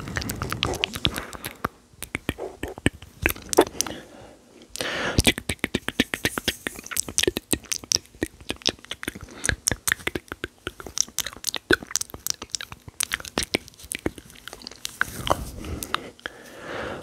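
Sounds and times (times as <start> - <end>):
wet mouth clicks and smacks: 0.0 - 4.0, 5.2 - 16.0.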